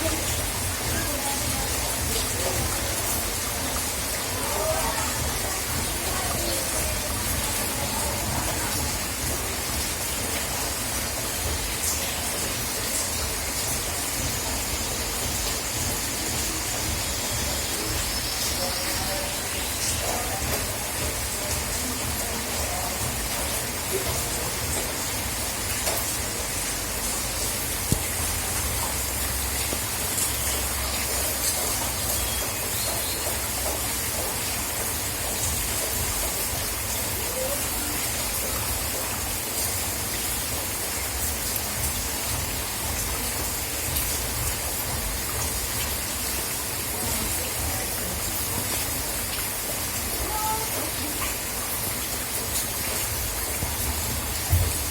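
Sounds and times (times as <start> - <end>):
raindrops tapping: 0.0 - 54.9
steady rain hiss: 0.0 - 54.9.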